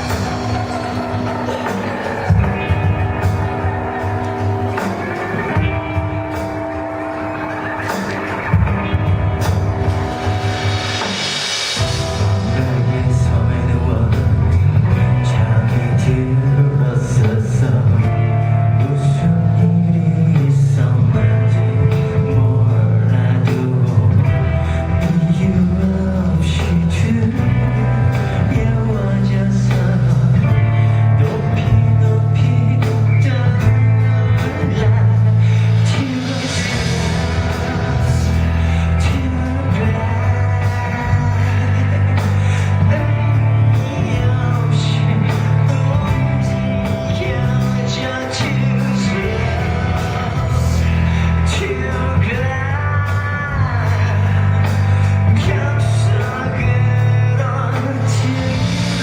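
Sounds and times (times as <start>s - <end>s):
electric guitar: 0.0s - 59.0s
heavy bass line: 0.0s - 59.0s
live rock band playing: 0.0s - 59.0s
person singing: 0.0s - 59.0s.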